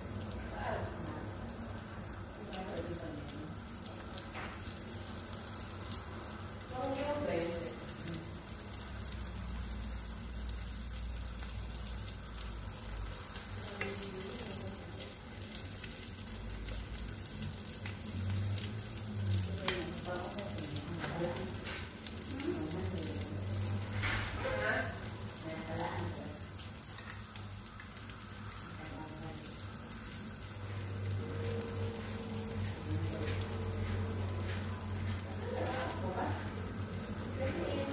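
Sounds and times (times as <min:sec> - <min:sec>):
chicken frying in hot oil: 0:00.0 - 0:37.9.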